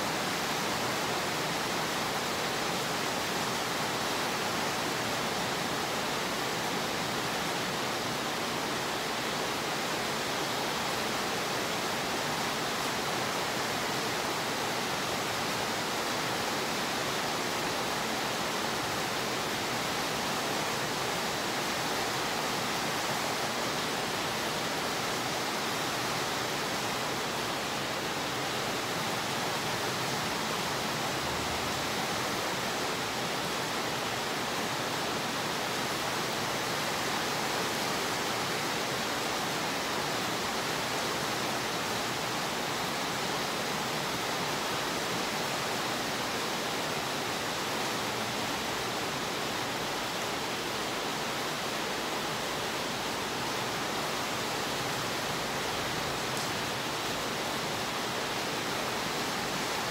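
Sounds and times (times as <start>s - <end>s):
rain on concrete: 9.2s - 59.9s.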